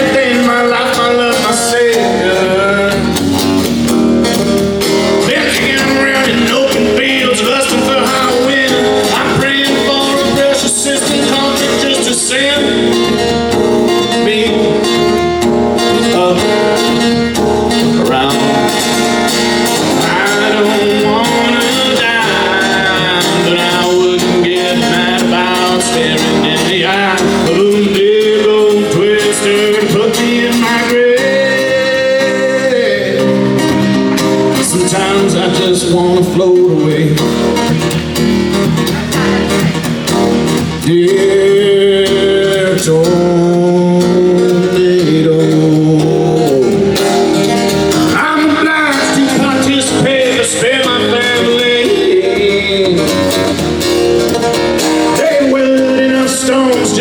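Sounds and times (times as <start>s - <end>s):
live band with guitar: 0.0s - 57.0s.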